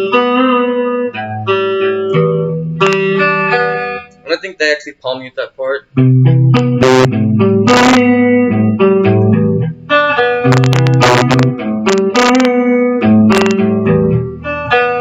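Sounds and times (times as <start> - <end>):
strummed guitar hits: 0.0 - 4.4, 6.0 - 15.0
guitar picked notes and chords: 0.0 - 15.0.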